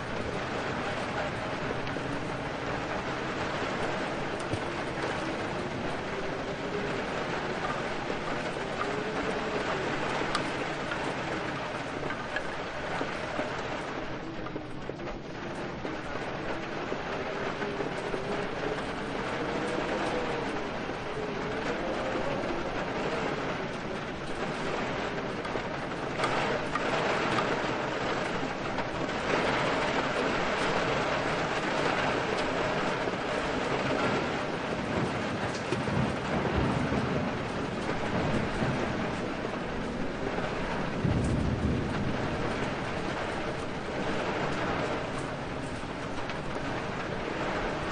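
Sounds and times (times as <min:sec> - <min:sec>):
dense rainfall: 0:00.0 - 0:47.9
wind: 0:00.0 - 0:47.9.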